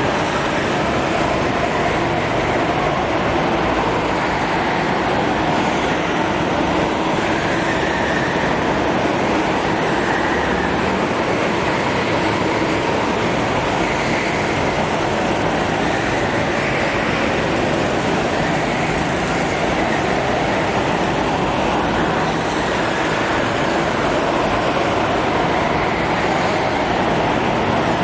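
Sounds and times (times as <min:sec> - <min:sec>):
go-kart engines droning: 0:00.0 - 0:28.0.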